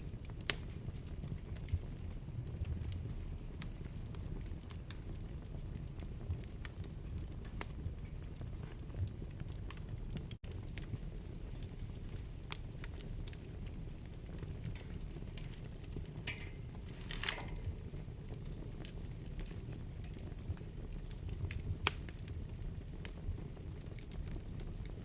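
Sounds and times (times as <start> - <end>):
fire crackling in a fireplace: 0.0 - 25.0.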